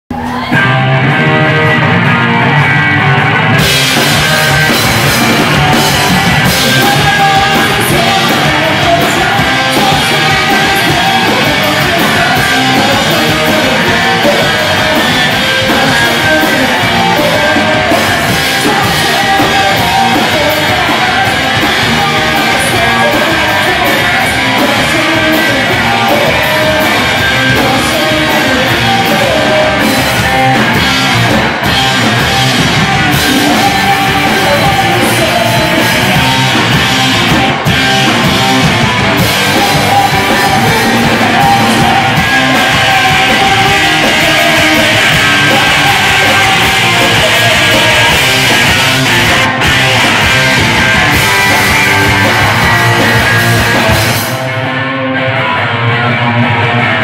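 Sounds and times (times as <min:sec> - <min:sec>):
distorted electric guitar: 0:00.0 - 0:57.0
drum kit and cymbals: 0:02.3 - 0:54.5.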